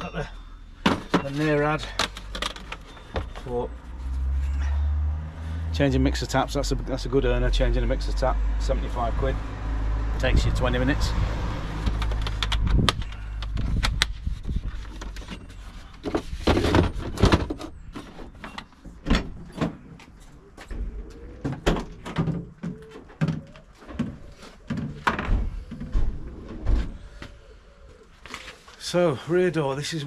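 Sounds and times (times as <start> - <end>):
knocks clunks and clatter: 0.0 - 27.4.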